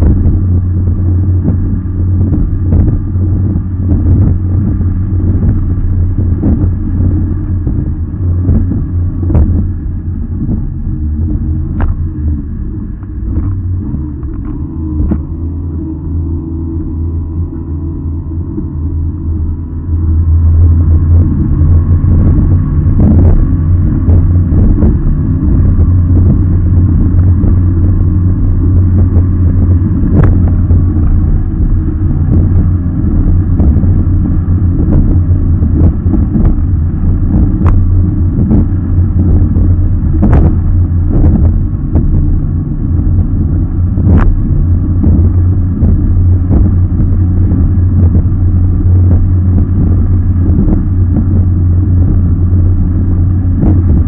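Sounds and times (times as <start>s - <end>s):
boat engine droning: 0.0s - 54.0s
hull slapping water: 0.0s - 54.0s.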